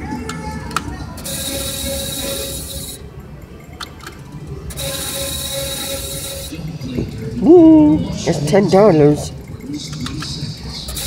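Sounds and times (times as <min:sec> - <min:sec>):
slot machine reels whirring: 0:00.0 - 0:07.4, 0:08.0 - 0:11.0
casino background hum: 0:00.0 - 0:11.0
slot machine clicks: 0:00.1 - 0:07.0, 0:08.8 - 0:11.0.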